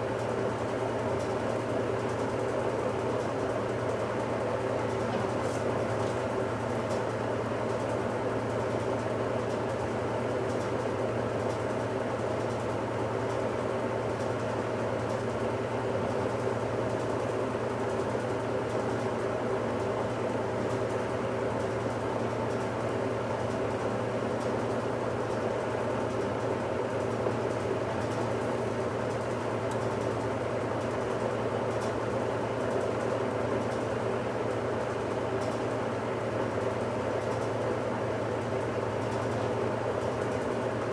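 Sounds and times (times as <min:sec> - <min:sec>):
washing machine running: 0:00.0 - 0:40.9.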